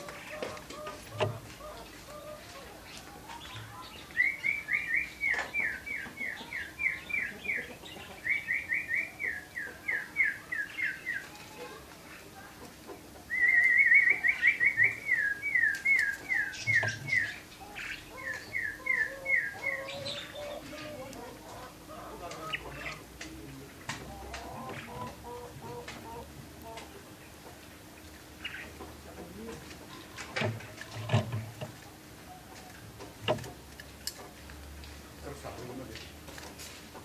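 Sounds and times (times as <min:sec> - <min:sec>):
canary singing: 0:00.0 - 0:11.9, 0:13.0 - 0:23.4, 0:24.0 - 0:34.2.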